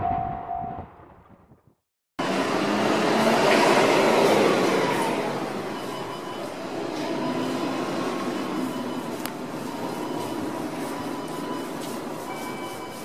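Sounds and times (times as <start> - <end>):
train wheels on rails: 2.2 - 13.0.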